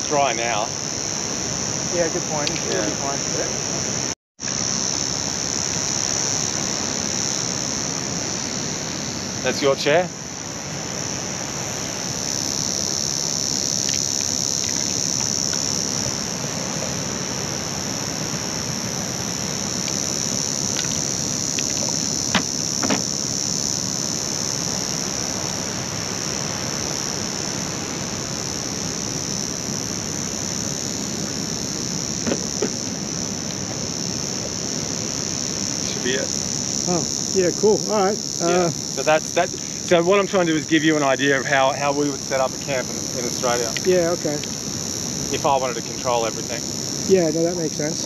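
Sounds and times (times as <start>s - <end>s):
insects droning: 0.0s - 48.0s
rushing background noise: 0.0s - 48.0s.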